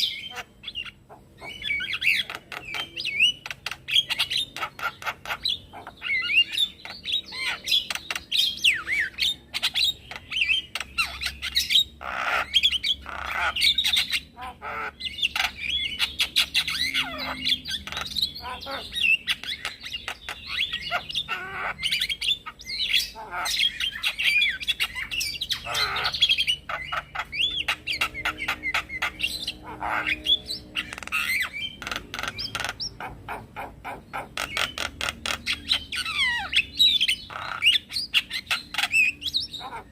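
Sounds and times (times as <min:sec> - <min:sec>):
myna bird singing: 0:00.0 - 0:39.9.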